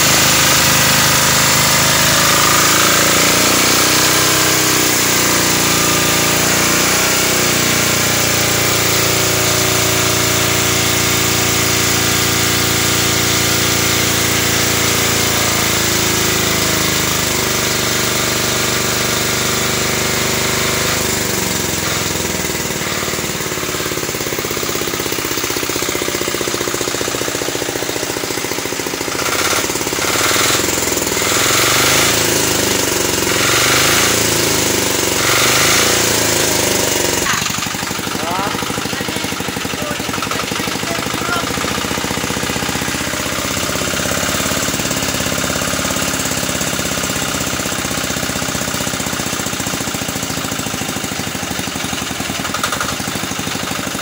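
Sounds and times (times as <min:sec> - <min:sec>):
diesel generator engine clattering: 0:00.0 - 0:54.0.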